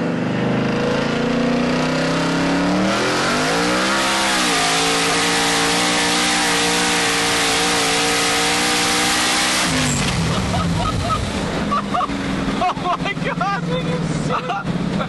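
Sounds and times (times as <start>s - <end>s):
car engine revving at full throttle: 0.0s - 15.0s.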